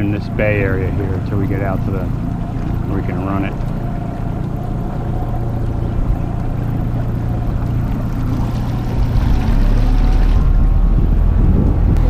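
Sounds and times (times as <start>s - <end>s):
outboard motor humming: 0.0s - 12.0s
water rushing along hull: 0.0s - 12.0s.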